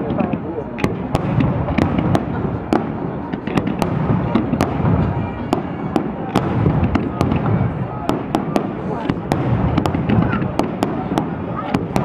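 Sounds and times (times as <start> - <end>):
fireworks cracking: 0.0 - 12.0
low rumble of fireworks: 0.0 - 12.0.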